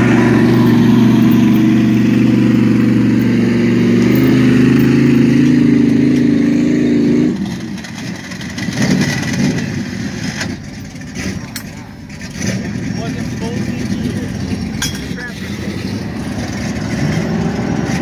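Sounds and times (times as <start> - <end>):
truck engine revving under load: 0.0 - 18.0.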